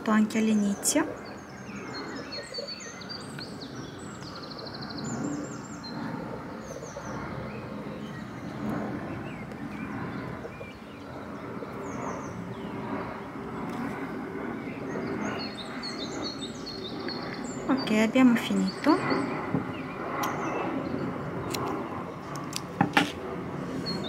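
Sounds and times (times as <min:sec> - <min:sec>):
small birds chirping: 0:00.0 - 0:22.8, 0:23.7 - 0:24.0.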